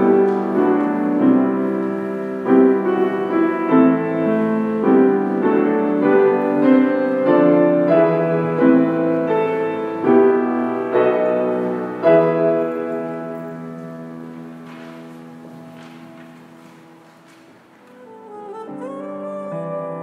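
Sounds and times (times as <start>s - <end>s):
grand piano chords: 0.0s - 20.0s.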